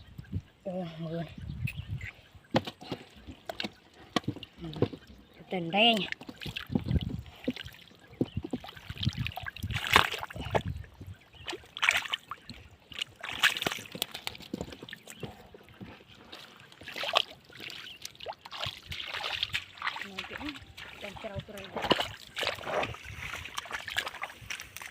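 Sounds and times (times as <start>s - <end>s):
splashing in shallow muddy water: 2.6s - 24.9s.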